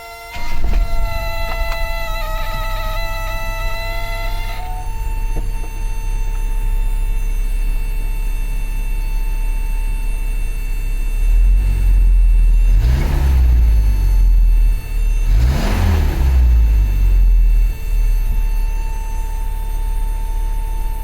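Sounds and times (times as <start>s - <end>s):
truck engine idling: 0.0s - 21.0s
truck engine revving: 0.3s - 7.7s, 11.1s - 20.7s.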